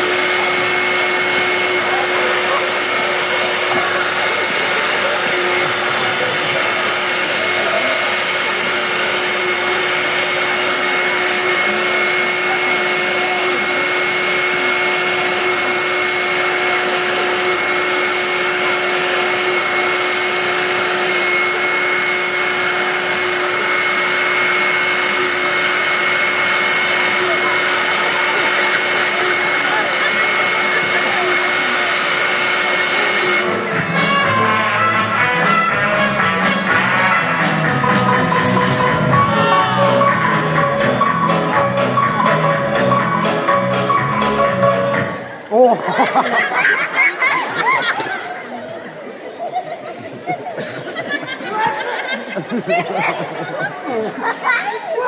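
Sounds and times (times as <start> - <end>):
vacuum cleaner running: 0.0 - 49.3.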